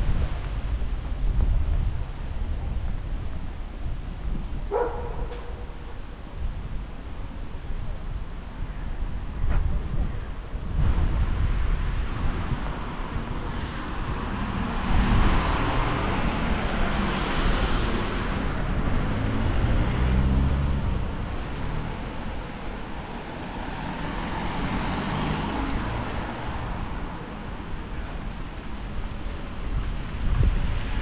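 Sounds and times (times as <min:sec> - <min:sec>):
low traffic rumble: 0:00.0 - 0:31.0
vehicles passing: 0:00.0 - 0:31.0.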